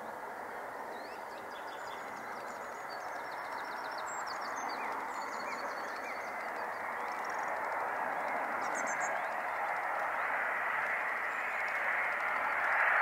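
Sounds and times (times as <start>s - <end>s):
distant jet engines rushing: 0.0s - 13.0s
small birds chirping: 0.4s - 13.0s.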